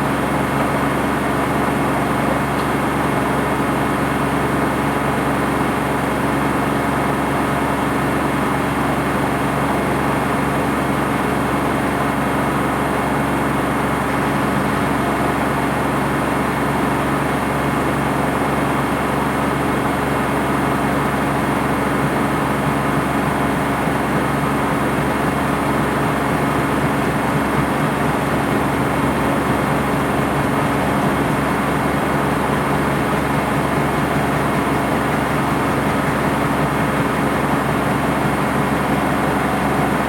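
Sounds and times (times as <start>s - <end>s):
washing machine humming: 0.0s - 40.0s.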